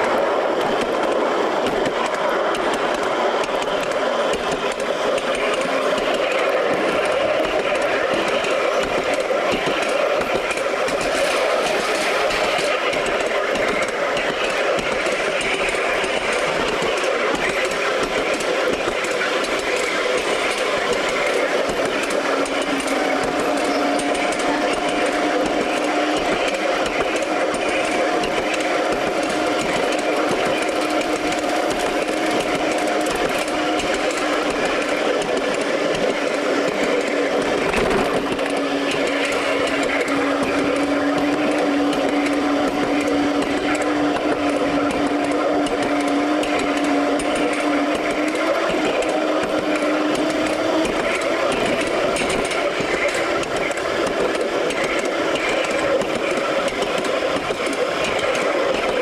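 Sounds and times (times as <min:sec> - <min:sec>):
miniature train mechanical whir: 0:00.0 - 0:59.0.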